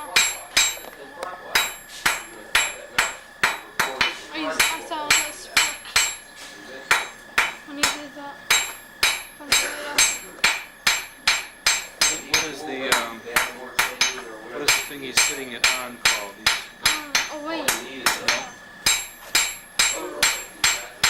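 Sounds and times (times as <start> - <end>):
hammer striking iron on anvil: 0.0 - 6.3, 6.9 - 21.0
high metallic ring: 0.0 - 21.0.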